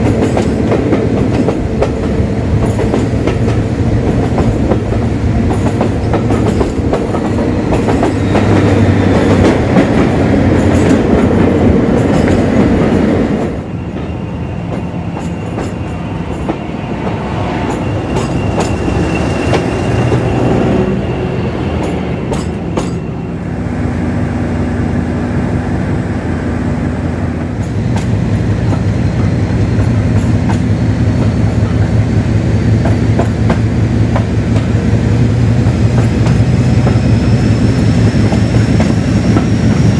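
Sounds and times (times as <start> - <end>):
diesel locomotive engine throbbing: 0.0 - 39.9.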